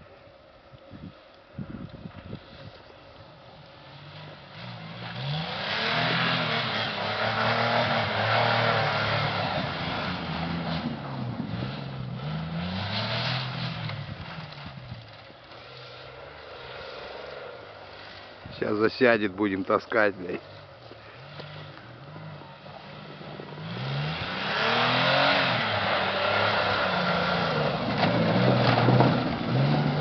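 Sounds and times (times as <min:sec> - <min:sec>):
car engine revving: 0:02.4 - 0:18.8, 0:20.1 - 0:30.0
tyres churning snow: 0:02.4 - 0:30.0.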